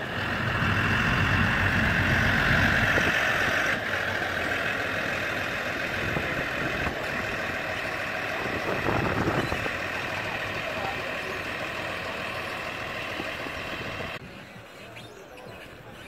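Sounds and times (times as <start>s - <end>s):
heavy engine idling: 0.0s - 14.2s.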